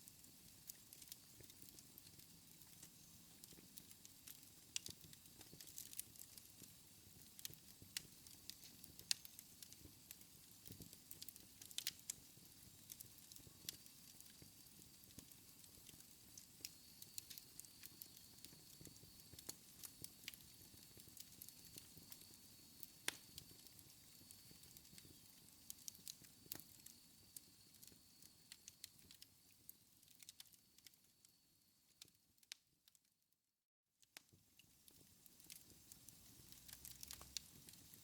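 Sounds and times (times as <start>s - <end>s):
wood fire crackling in a fireplace: 0.0s - 33.3s, 34.0s - 38.0s.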